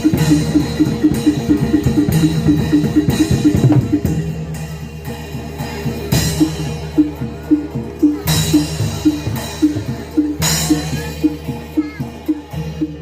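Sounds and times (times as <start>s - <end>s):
gamelan pitched beat: 0.0s - 13.0s.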